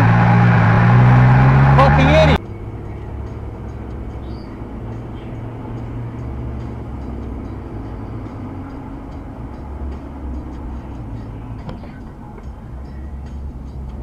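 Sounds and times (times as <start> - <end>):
car cabin road and engine noise: 0.0 - 14.0.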